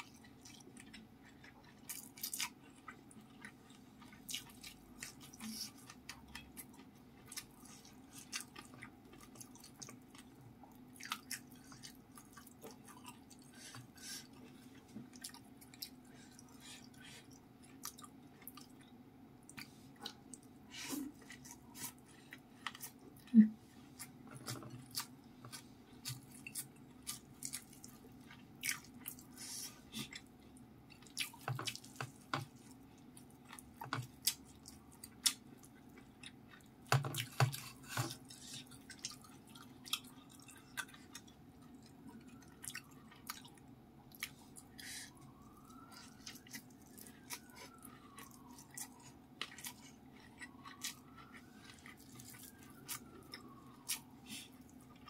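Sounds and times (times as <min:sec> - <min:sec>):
wet chewing and mouth smacks: 0:00.0 - 0:23.4, 0:24.0 - 0:55.0
low steady hum: 0:00.0 - 0:55.0.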